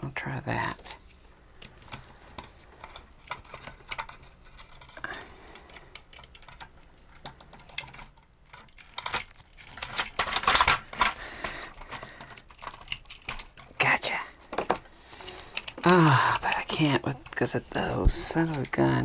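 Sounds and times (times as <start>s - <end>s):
rattling clicks and scrapes: 0.8s - 19.0s
plastic and brass parts clicking: 1.5s - 13.8s, 14.4s - 17.4s.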